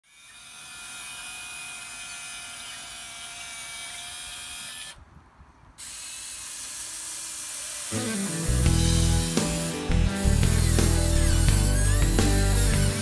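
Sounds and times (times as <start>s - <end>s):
small electric motors whining: 0.0s - 5.0s, 5.8s - 13.0s.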